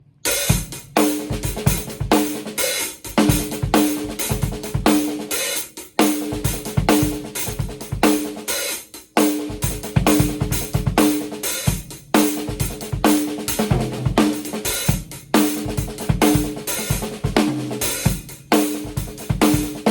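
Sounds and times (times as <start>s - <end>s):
drum kit groove: 0.2s - 19.9s
fat snare drum strokes: 0.3s - 19.9s.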